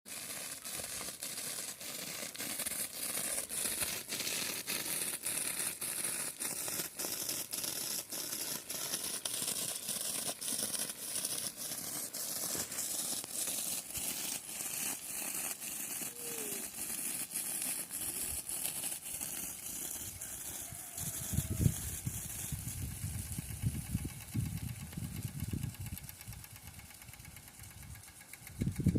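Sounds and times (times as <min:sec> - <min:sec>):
water spray hissing: 0:00.1 - 0:28.8
sprinkler clicking: 0:00.1 - 0:28.9.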